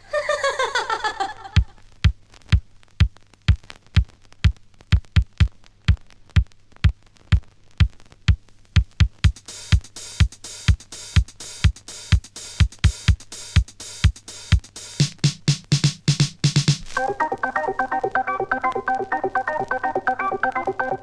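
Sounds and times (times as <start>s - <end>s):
drum machine kick beat: 1.6s - 21.0s.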